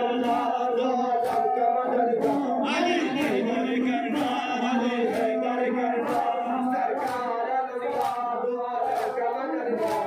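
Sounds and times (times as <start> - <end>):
men chanting a lament: 0.0 - 10.0.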